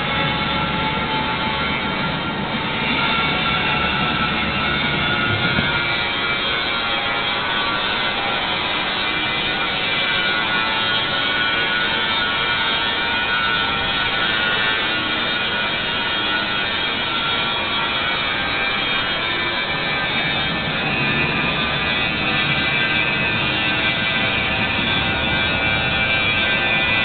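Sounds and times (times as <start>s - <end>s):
faint high whine: 0.0s - 27.0s.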